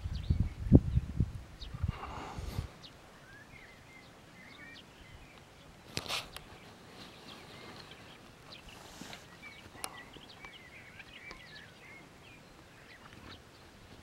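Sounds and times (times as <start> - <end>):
birds chirping: 0.0 - 14.0
rustle: 0.0 - 14.0.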